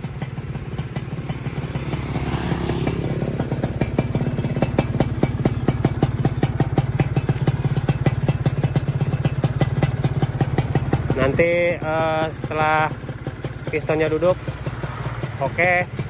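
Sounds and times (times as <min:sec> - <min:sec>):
two-stroke engine idling: 0:00.0 - 0:16.0.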